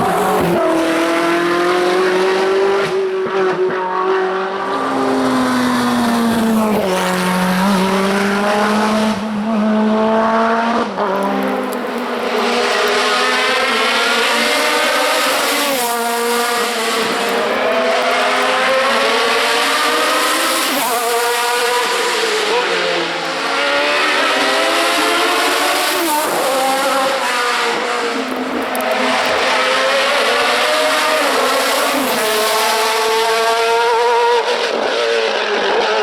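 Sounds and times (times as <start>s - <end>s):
racing car engine at high revs: 0.0s - 36.0s.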